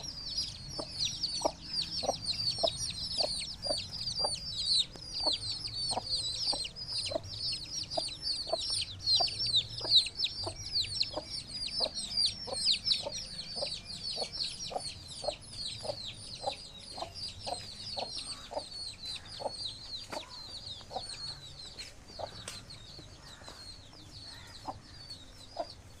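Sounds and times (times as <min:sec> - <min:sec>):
hen clucking: 0:00.0 - 0:23.6
chicks peeping: 0:00.0 - 0:26.0.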